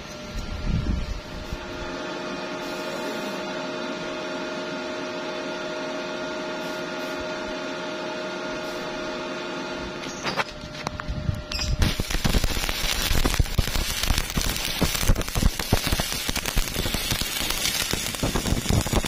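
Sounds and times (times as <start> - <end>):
electrical hum with fixed tones: 0.0 - 19.0.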